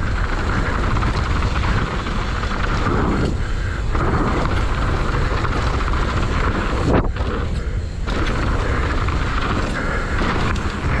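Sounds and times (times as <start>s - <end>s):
bike tyres rumbling on gravel: 0.0s - 11.0s
wind rushing over microphone: 0.0s - 11.0s.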